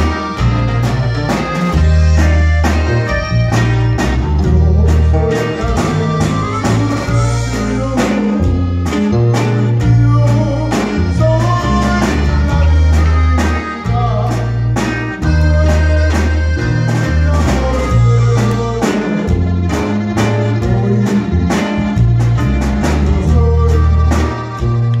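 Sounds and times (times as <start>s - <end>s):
accordion-led band playing: 0.0s - 25.0s.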